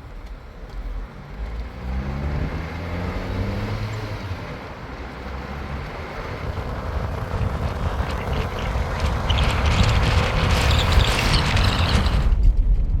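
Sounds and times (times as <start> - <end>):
vehicle engine running: 0.0 - 12.1
road and wind noise: 0.0 - 13.0.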